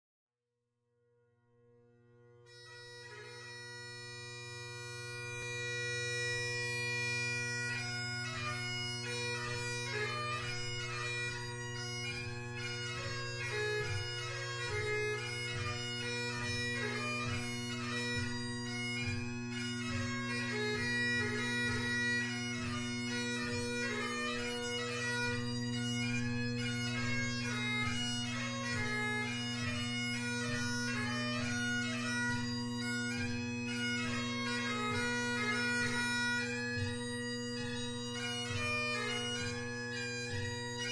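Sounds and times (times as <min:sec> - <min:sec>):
bagpipe tune: 0:02.1 - 0:40.9.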